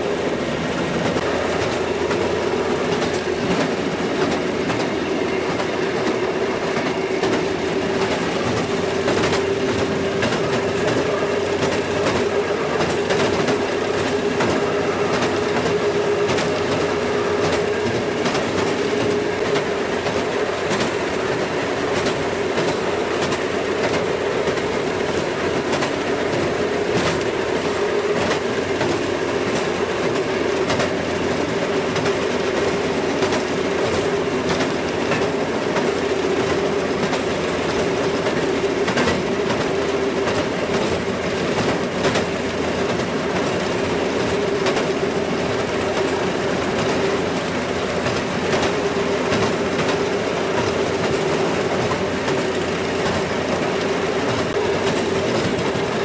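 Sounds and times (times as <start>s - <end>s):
rail motorcar hum: 0.0s - 56.0s
wheels clicking over rail joints: 0.0s - 56.0s.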